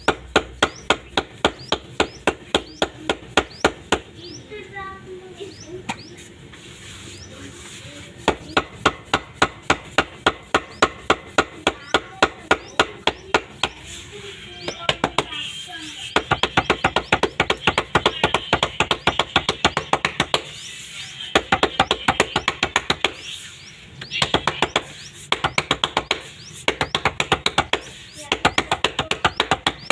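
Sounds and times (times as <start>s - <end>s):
palms patting dough flat: 0.0s - 4.4s, 5.7s - 29.9s.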